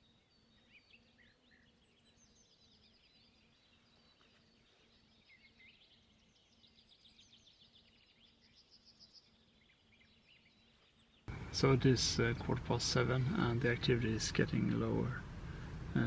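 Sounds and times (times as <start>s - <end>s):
faint birdsong chirps: 0.0s - 16.0s.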